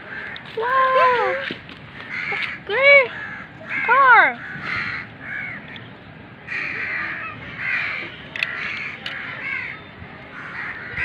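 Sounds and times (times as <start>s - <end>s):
bird calling: 0.0s - 11.0s.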